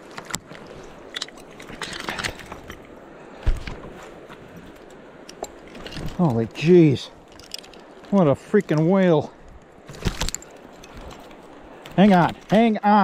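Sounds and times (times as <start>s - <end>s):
fishing net handling noise: 0.0s - 8.8s, 9.4s - 12.7s
river water flowing: 0.0s - 13.0s.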